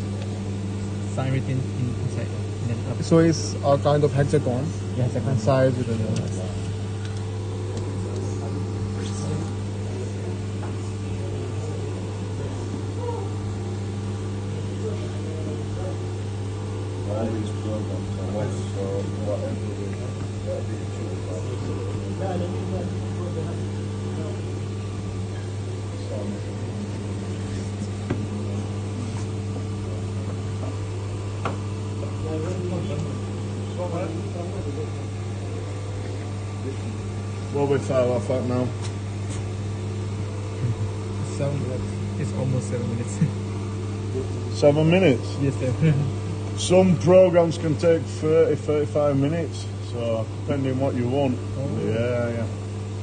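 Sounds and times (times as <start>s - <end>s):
milling machine humming: 0.0s - 53.0s.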